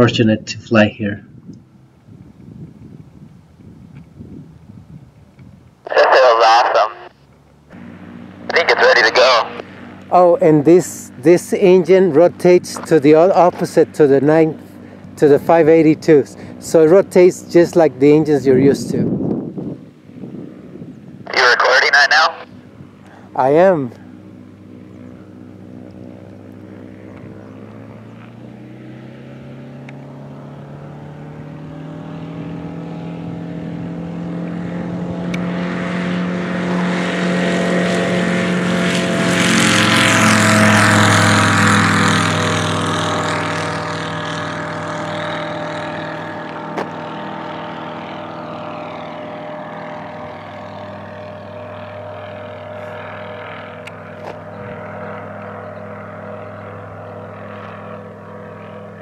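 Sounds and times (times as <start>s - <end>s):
light aircraft engine and propeller drone: 0.0s - 59.0s.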